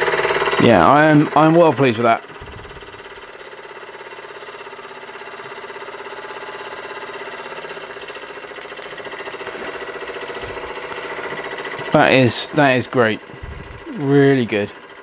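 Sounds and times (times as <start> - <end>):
model steam engine running: 0.0 - 15.0.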